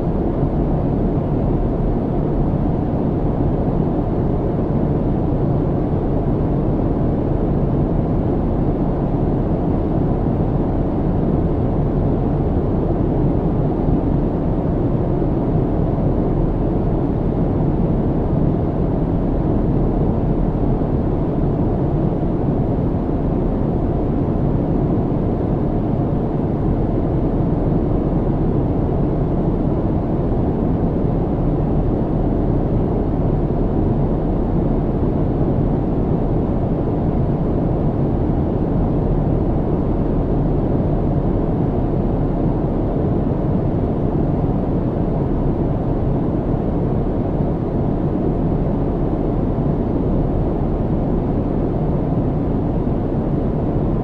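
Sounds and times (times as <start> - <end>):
airliner cabin engine rush: 0.0 - 54.0.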